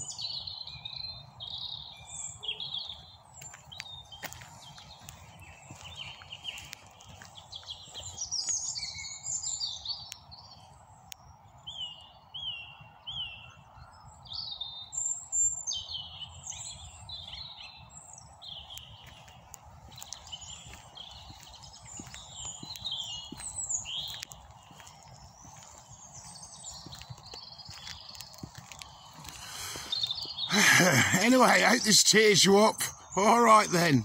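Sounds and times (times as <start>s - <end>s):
songbirds singing: 0.0s - 34.0s.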